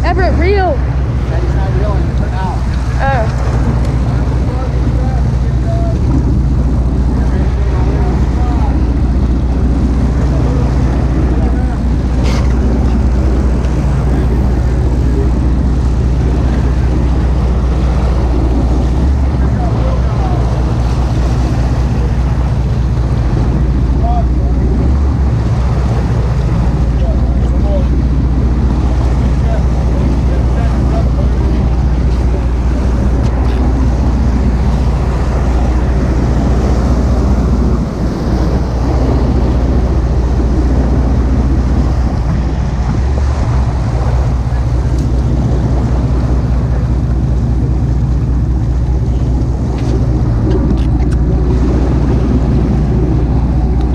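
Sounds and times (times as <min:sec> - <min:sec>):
boat engine drone: 0:00.0 - 0:53.9
rush of wind and water: 0:00.0 - 0:53.9
wind buffeting microphone: 0:00.0 - 0:53.9.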